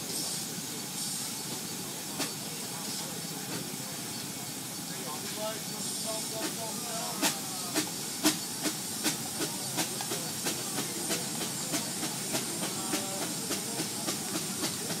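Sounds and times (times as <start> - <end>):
steam engine hissing and beating: 0.0 - 15.0.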